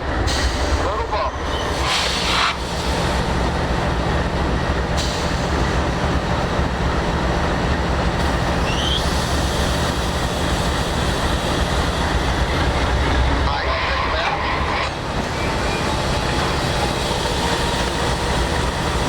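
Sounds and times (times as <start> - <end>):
locomotive low drone: 0.0 - 19.0.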